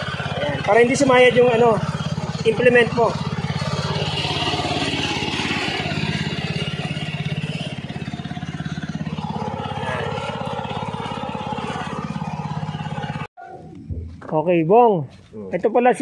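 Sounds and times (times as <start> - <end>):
hand tractor engine running: 0.0 - 13.3.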